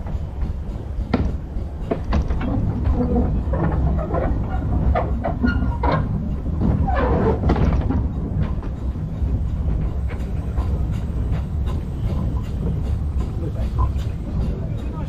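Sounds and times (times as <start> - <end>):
steam train rumbling on track: 0.0 - 15.0.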